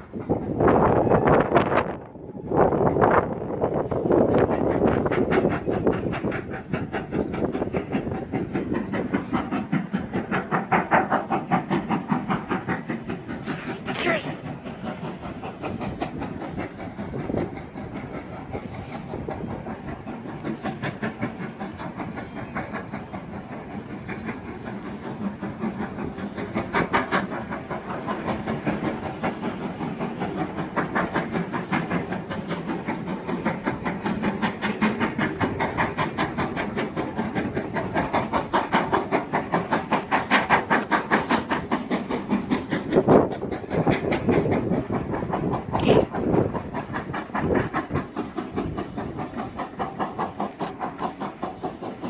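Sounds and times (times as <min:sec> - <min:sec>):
steam locomotive running: 0:00.0 - 0:52.0.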